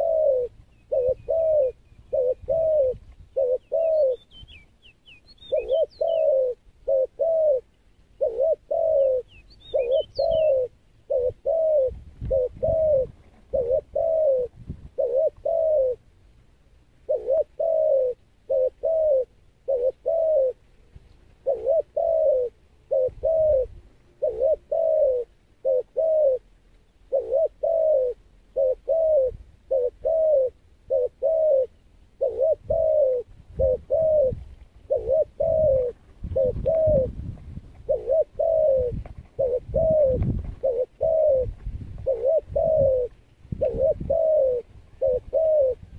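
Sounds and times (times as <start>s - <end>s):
dove cooing: 0.0s - 4.6s, 5.4s - 16.1s, 17.0s - 45.9s.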